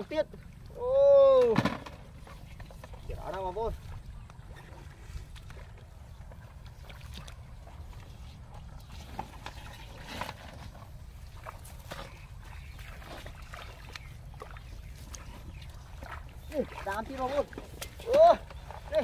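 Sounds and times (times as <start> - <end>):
squelches in mud: 0.0 - 19.0.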